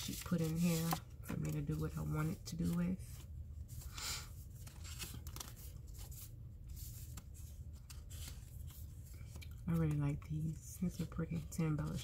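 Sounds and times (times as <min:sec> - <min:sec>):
paper rustling: 0:00.0 - 0:10.0
low steady hum: 0:00.0 - 0:12.0.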